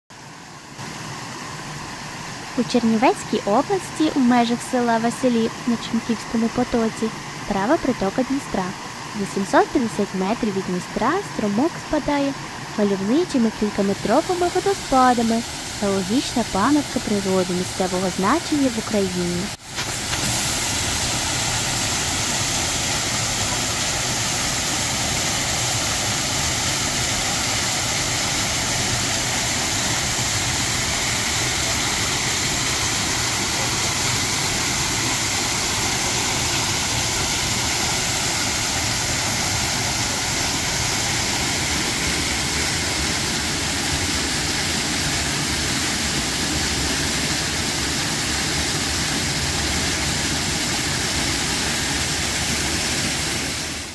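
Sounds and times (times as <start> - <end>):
waterfall rushing and splashing: 0.2 - 53.9.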